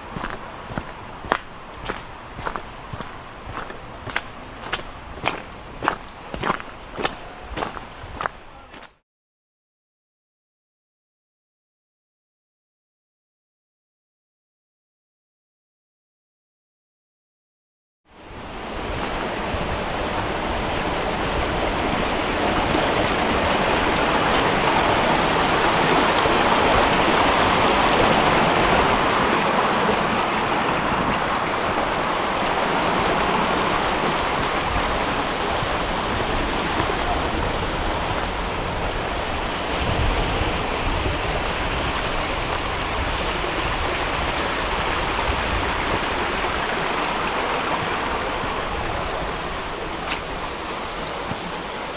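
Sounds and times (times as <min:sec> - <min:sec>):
stream flowing over stones: 0:00.0 - 0:08.9, 0:18.3 - 0:51.9.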